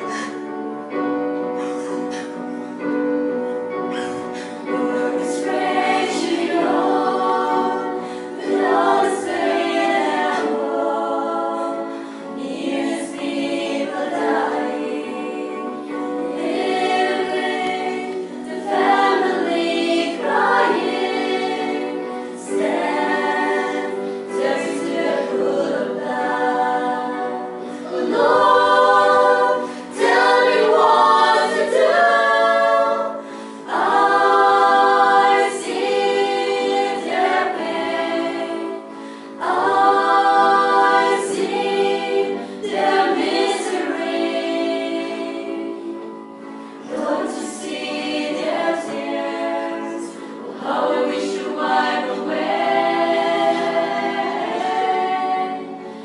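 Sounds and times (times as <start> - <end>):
choir singing held notes: 0.0 - 56.0.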